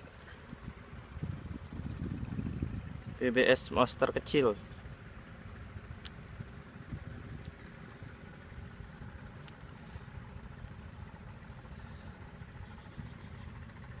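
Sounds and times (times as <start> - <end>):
high-pitched insect drone: 0.0 - 14.0
low irregular rumble: 0.0 - 14.0.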